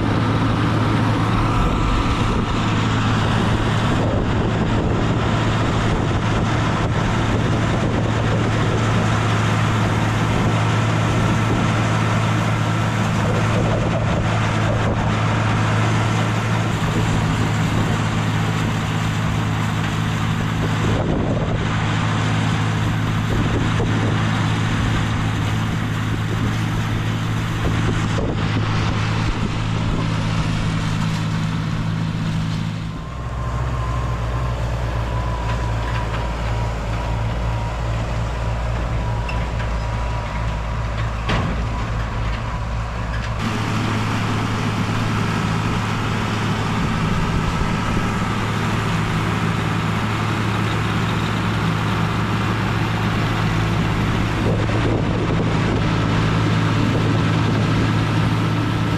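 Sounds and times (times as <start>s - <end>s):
tractor engine humming: 0.0s - 58.9s.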